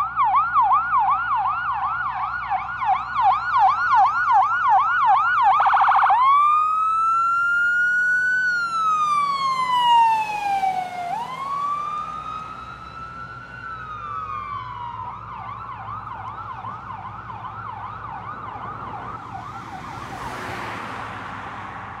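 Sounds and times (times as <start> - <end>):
fire engine electronic siren: 0.0 - 22.0.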